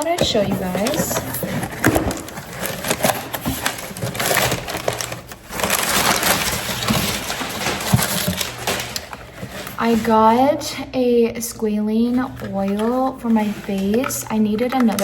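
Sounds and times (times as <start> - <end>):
packaging crackling and rustling: 0.0 - 10.7, 11.8 - 15.0.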